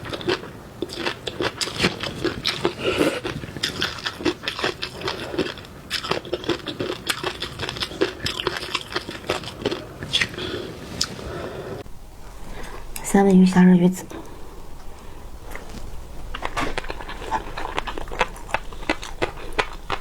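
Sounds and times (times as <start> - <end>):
person chewing crunchy food: 0.0 - 11.8, 14.2 - 20.0.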